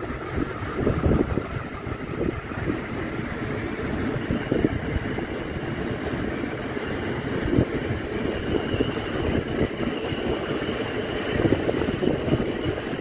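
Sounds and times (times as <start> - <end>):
train wheels rumbling on rails: 0.0 - 13.0
train wheels squeaking: 2.5 - 13.0.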